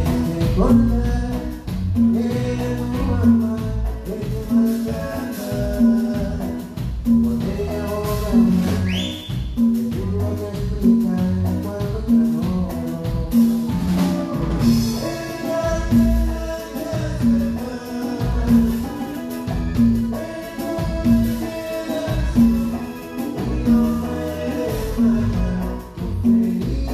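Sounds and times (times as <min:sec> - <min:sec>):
live latin dance band: 0:00.0 - 0:26.9.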